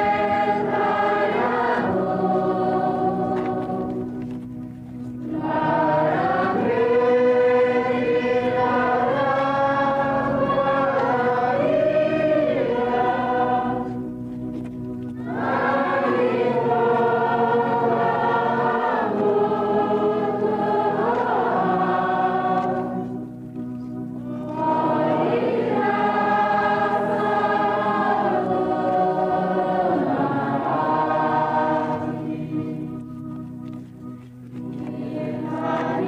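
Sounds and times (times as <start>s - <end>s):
choir singing a hymn: 0.0s - 33.9s, 34.6s - 36.0s.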